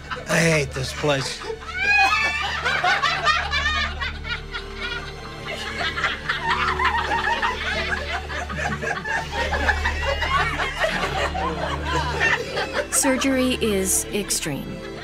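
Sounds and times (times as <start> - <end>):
people laughing: 0.0 - 15.0.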